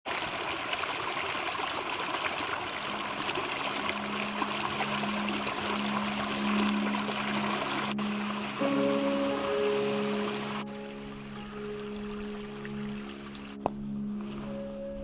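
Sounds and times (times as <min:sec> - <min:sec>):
stream trickling water: 0:00.1 - 0:15.0
low sustained music note: 0:02.9 - 0:15.0.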